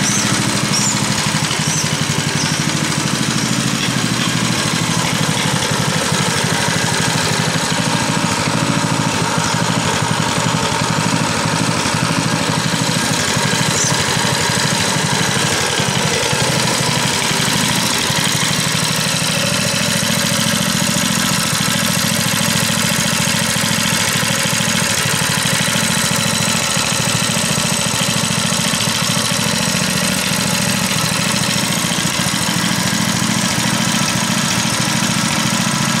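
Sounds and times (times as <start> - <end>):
small engine idling: 0.0 - 36.0.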